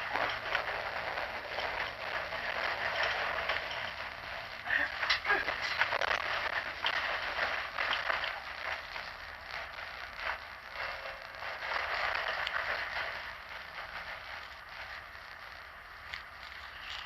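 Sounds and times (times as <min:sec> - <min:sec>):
hissing rattle: 0:00.0 - 0:17.0.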